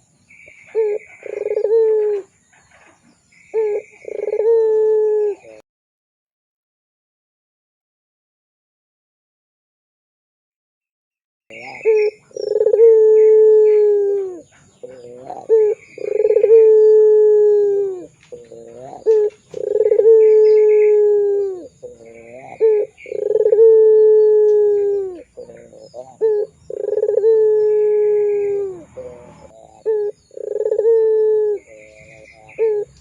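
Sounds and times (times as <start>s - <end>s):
dove cooing: 0.0s - 5.6s, 11.5s - 33.0s.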